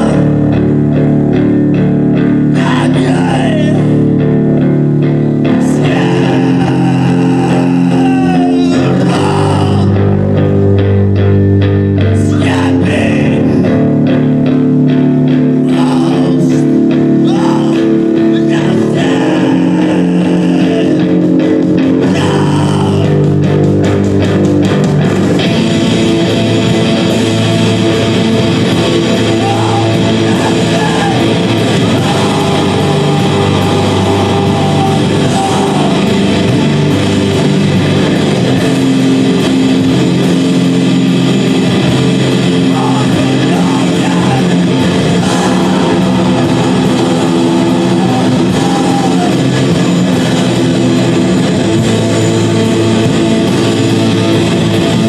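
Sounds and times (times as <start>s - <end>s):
bass guitar: 0.0s - 55.0s
electric guitar chords: 0.0s - 55.0s
live band music: 0.0s - 55.0s.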